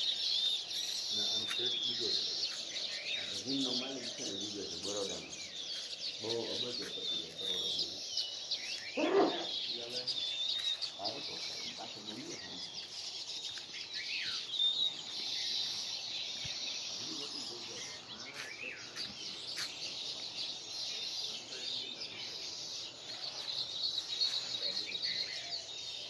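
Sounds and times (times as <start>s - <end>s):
birds twittering chorus: 0.0s - 26.0s.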